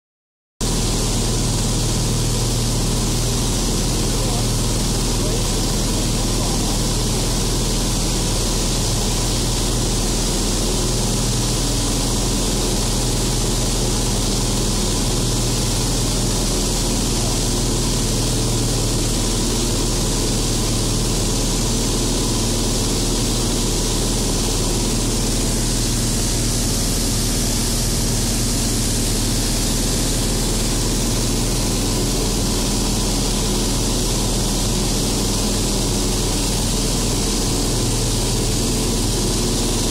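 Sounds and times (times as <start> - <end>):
propeller aircraft engine droning: 0.6 - 39.9.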